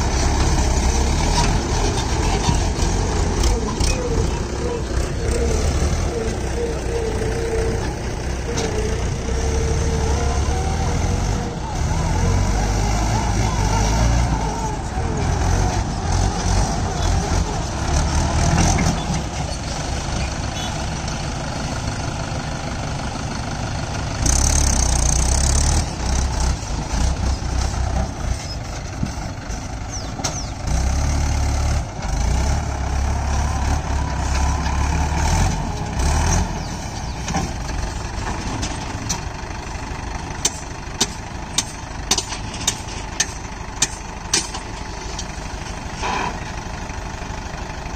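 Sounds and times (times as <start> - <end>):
heavy diesel engine working: 0.0 - 47.9.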